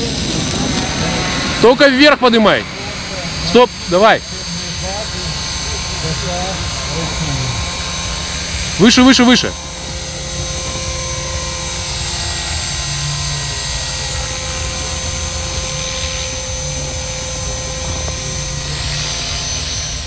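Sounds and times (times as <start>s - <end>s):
model helicopter rotor whine: 0.0s - 20.0s.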